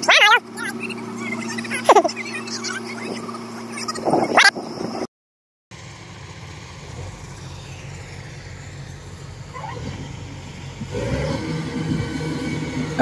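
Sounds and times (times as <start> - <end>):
combine harvester engine hum: 0.0 - 5.1, 5.8 - 13.0.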